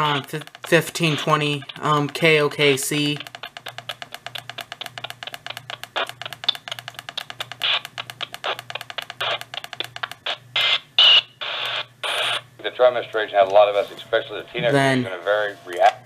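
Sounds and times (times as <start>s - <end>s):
radio static bursts: 0.0s - 4.1s, 4.7s - 16.0s
radio tuning clicks: 0.0s - 16.0s
snatches of station audio: 0.0s - 16.0s.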